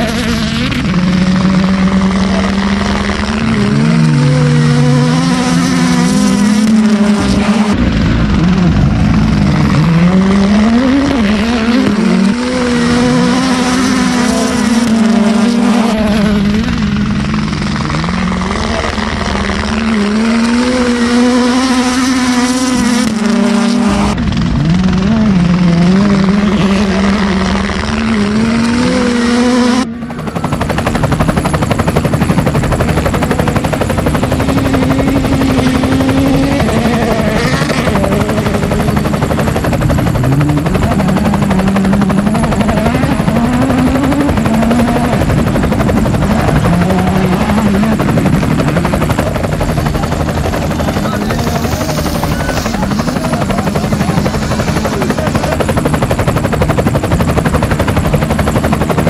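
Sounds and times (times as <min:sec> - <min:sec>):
helicopter turbine whine: 0:00.0 - 0:59.0
rapid helicopter rotor beat: 0:00.0 - 0:59.0.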